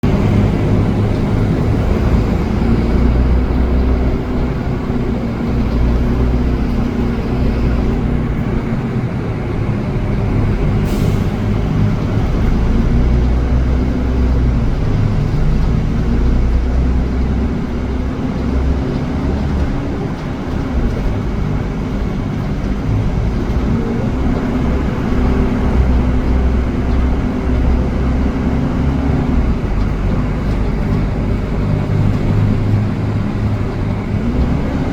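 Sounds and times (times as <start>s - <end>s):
bus engine drone: 0.0s - 34.9s
road noise: 0.0s - 34.9s.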